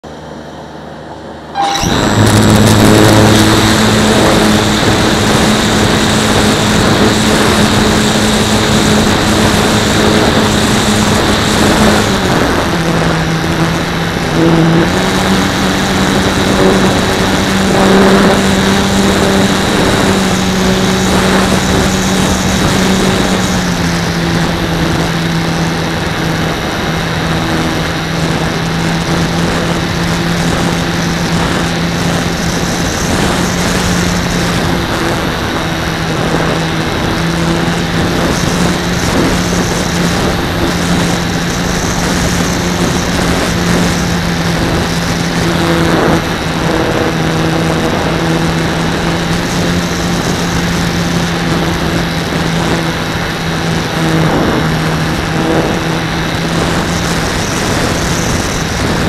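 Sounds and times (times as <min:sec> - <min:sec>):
electric motor and propeller: 0:00.0 - 0:59.0.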